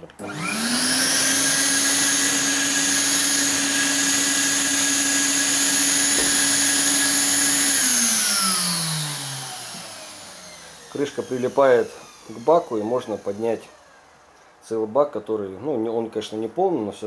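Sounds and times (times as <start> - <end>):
vacuum cleaner running: 0.0 - 14.4
motor winding down: 0.2 - 14.3.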